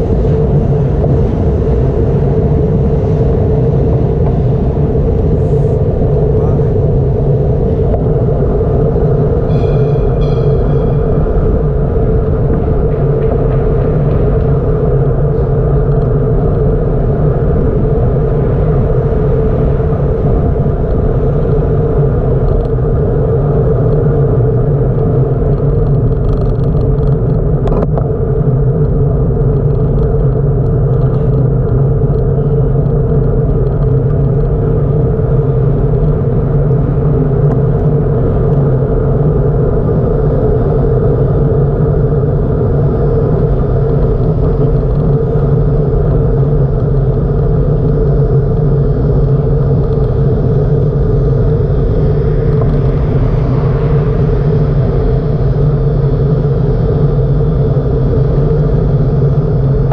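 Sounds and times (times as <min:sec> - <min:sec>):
road rumble: 0:00.0 - 0:59.9
wind on microphone: 0:00.0 - 0:59.9.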